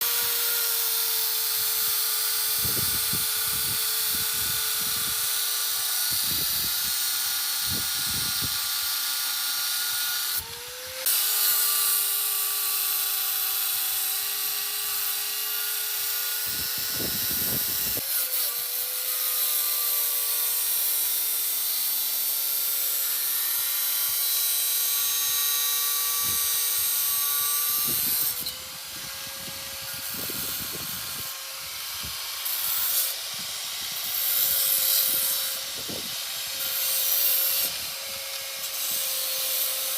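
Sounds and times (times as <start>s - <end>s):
angle grinder cutting: 0.0s - 39.9s.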